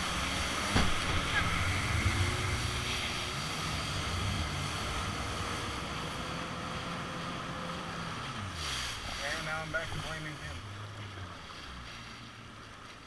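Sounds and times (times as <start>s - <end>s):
jet ski engine drone: 0.0s - 13.0s.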